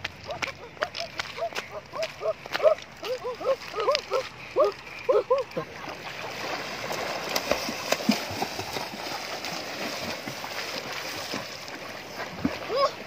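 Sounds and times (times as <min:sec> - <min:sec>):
water splashing from swimmer: 0:00.0 - 0:13.0.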